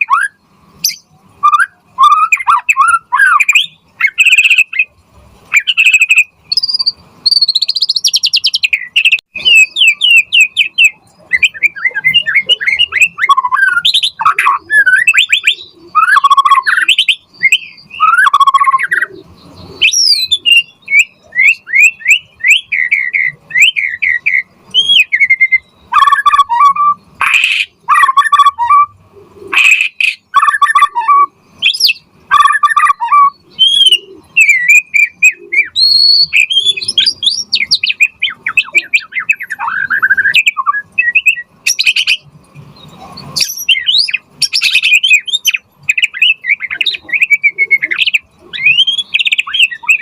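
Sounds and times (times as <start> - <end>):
songbird singing whistles and trills: 0.0 - 50.0.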